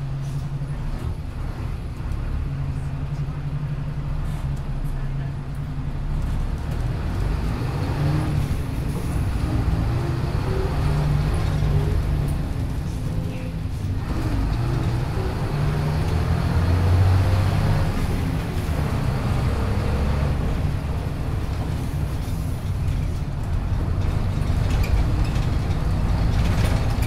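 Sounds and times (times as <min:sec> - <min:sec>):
bus diesel engine drone: 0:00.0 - 0:27.0
road rumble: 0:00.0 - 0:27.0.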